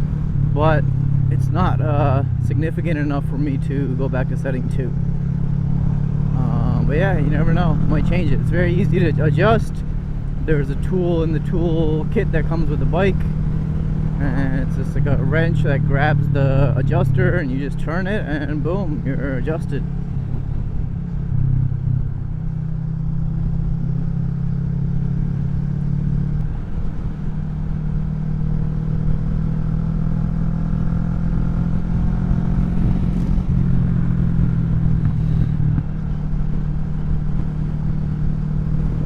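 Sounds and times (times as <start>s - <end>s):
motorcycle engine running: 0.0s - 39.0s
wind rumble: 0.0s - 39.0s.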